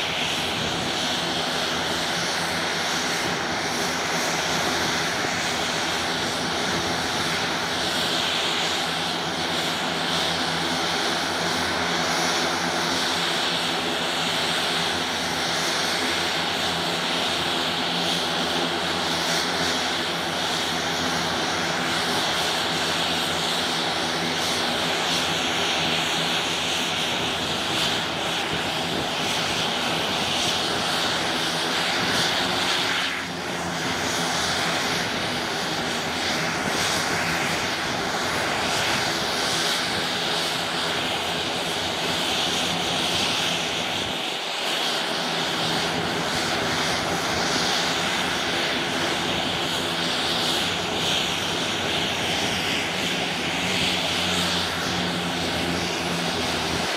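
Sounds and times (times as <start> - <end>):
turboprop engines running: 0.0 - 56.9.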